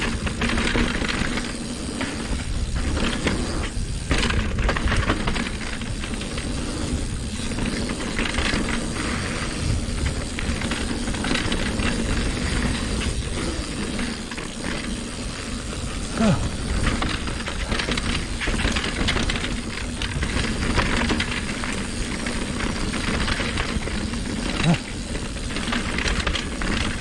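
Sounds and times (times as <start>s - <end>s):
tyre and wind noise: 0.0s - 27.0s.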